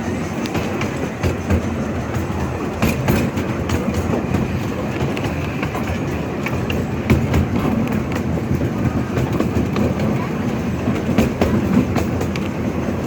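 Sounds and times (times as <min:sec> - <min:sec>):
train rumbling on track: 0:00.0 - 0:13.0
wheels clicking over rails: 0:00.0 - 0:13.0.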